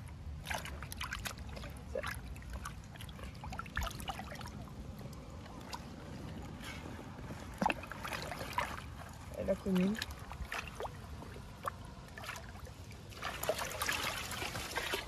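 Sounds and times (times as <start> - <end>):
low steady rumble: 0.0 - 15.0
water splashing and trickling: 0.0 - 15.0
hands sloshing in water: 0.1 - 15.0.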